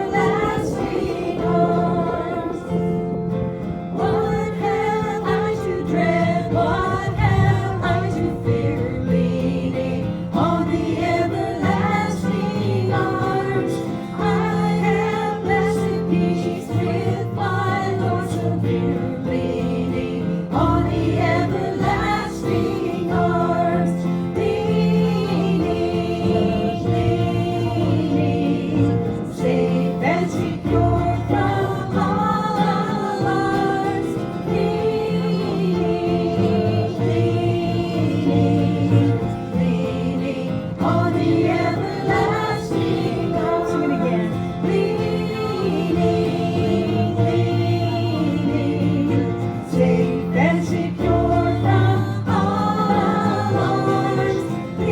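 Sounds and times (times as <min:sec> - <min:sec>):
group singing a hymn: 0:00.0 - 0:54.9.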